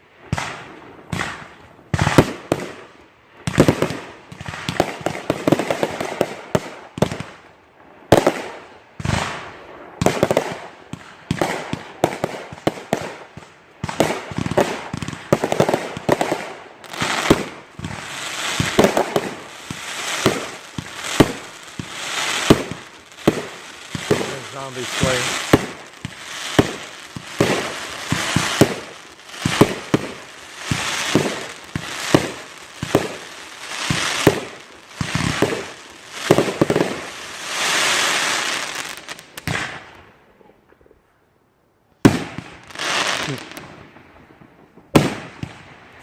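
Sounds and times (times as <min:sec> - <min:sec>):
fireworks bangs and crackle: 0:00.0 - 0:40.1, 0:42.0 - 0:46.0.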